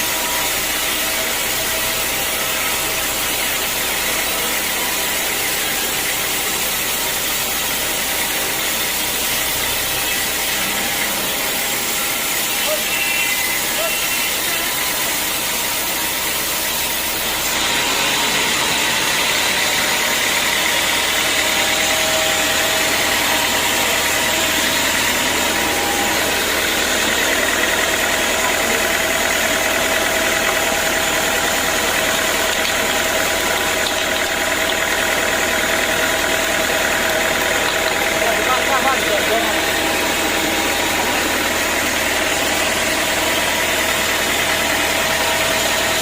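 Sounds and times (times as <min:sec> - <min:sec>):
sawmill machinery running: 0:00.0 - 0:46.0.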